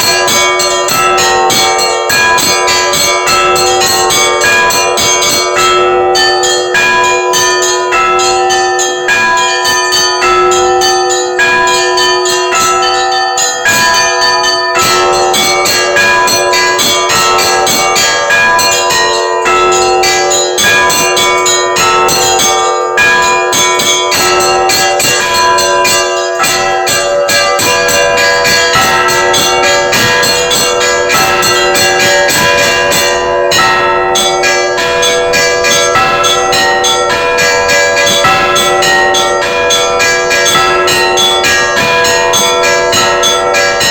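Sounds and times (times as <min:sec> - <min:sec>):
large bells ringing: 0:00.0 - 0:43.9
small bells struck fast: 0:00.0 - 0:43.9.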